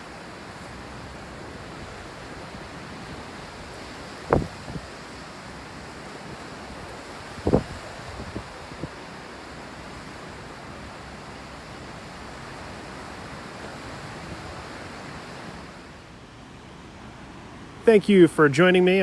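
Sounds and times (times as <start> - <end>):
wind on microphone: 0.0 - 15.9
ocean surf washing on beach: 0.0 - 19.0.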